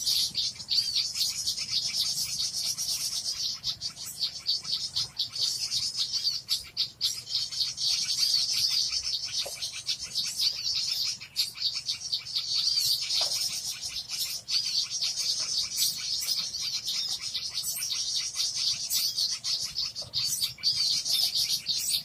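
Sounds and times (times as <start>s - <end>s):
songbirds chirping and twittering: 0.0s - 22.0s.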